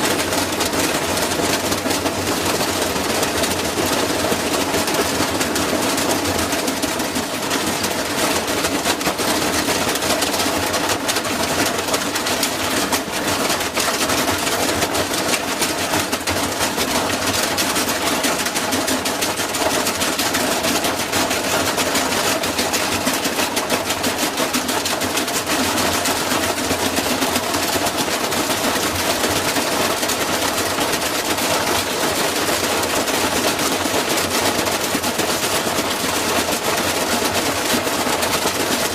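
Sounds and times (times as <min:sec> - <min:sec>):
washing machine rattling and knocking: 0:00.0 - 0:38.9.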